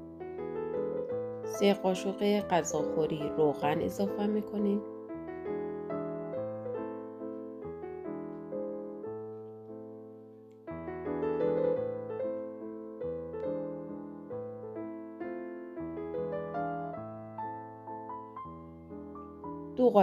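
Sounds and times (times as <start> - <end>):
gentle piano melody: 0.0 - 20.0
piano bass notes: 0.0 - 20.0.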